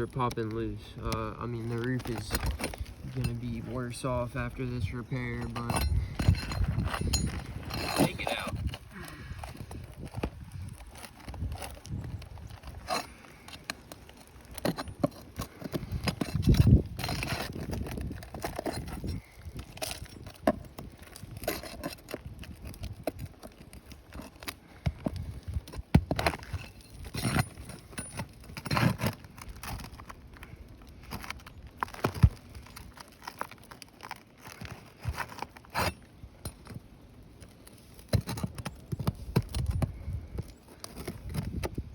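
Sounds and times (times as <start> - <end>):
metal bar scraping under shingles: 0.0 - 41.8
shingles cracking and breaking: 0.0 - 41.9.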